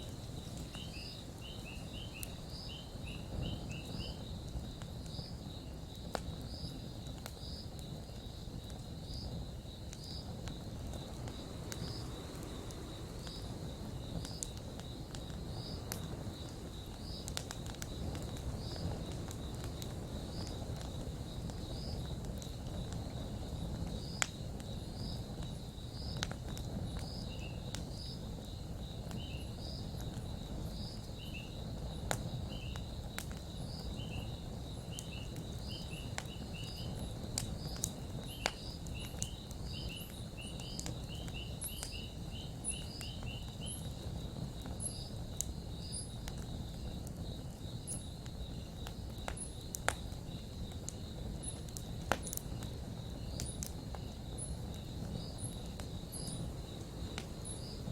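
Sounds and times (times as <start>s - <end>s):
campfire crackling: 0.0s - 57.9s
insect chirps: 0.0s - 57.9s
insects trilling: 0.0s - 57.9s.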